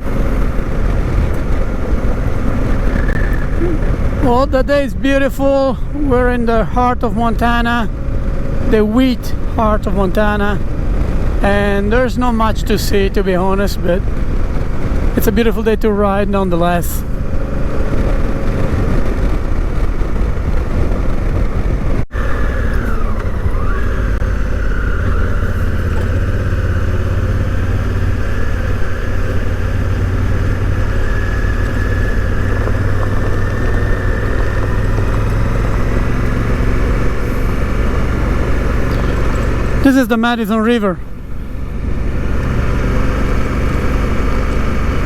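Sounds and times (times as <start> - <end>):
motorcycle engine cruising: 0.0 - 45.0
road and wind noise: 0.0 - 45.0.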